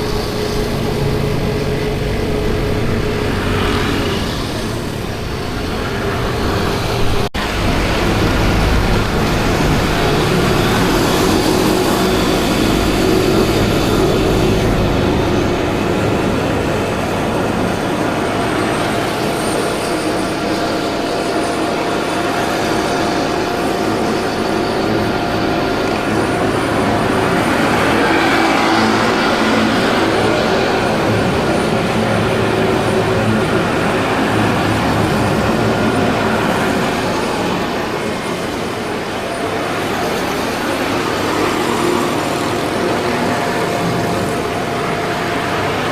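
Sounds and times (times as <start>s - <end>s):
road and traffic noise: 0.0s - 45.9s.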